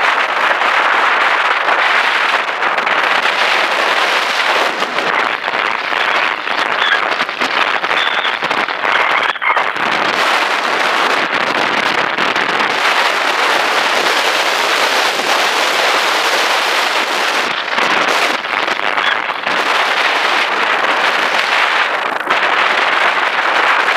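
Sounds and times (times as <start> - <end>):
crackle of grit: 0.0 - 23.9
wind rush: 0.0 - 23.9.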